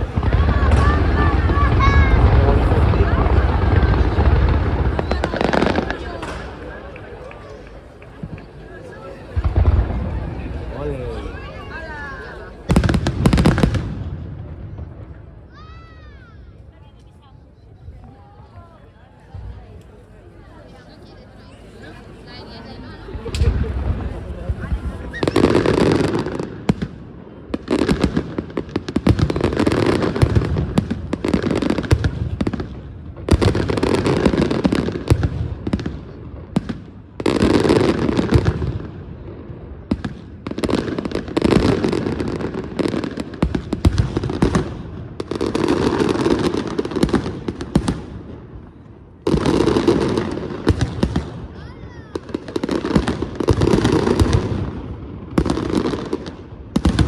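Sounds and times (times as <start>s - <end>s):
fireworks crackling bangs: 0.0s - 15.8s, 21.8s - 57.0s.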